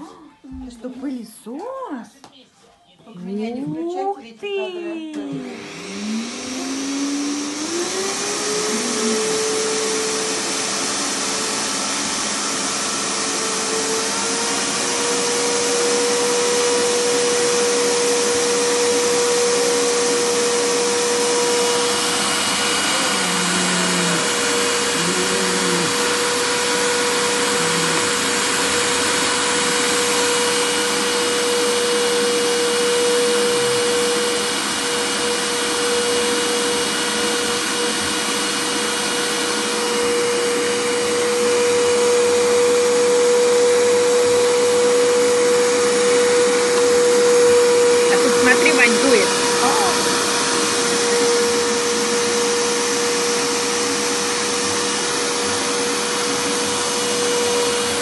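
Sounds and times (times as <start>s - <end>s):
vacuum cleaner running: 3.2s - 58.0s.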